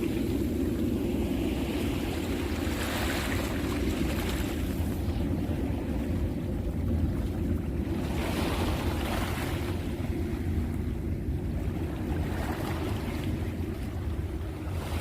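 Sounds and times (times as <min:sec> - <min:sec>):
sea waves washing in: 0:00.0 - 0:15.0
wind rumble on microphone: 0:00.0 - 0:15.0.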